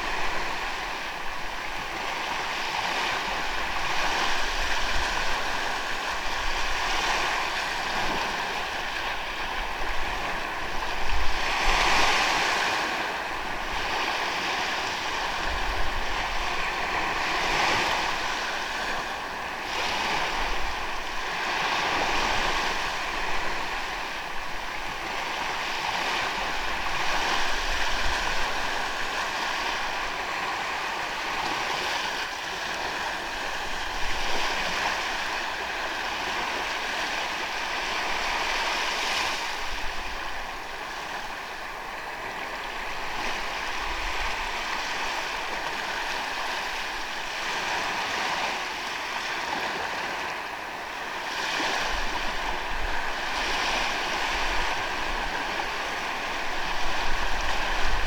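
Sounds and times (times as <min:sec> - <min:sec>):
waves washing onto beach: 0:00.0 - 0:58.0
wind on microphone: 0:00.0 - 0:58.0.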